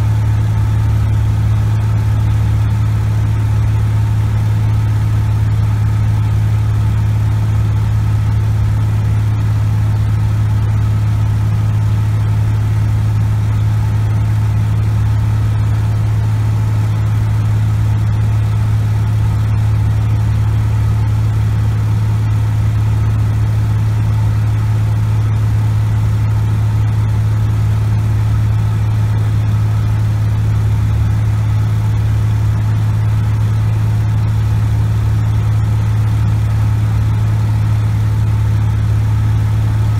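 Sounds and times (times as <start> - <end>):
aircraft engine droning in flight: 0.0 - 39.9.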